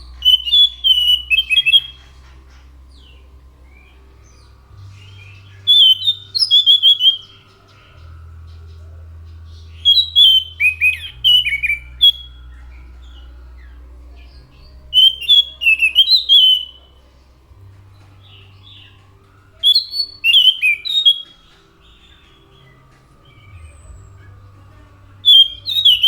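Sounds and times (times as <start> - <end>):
low steady hum: 0.0 - 26.0
thrush singing whistled notes: 0.0 - 26.0.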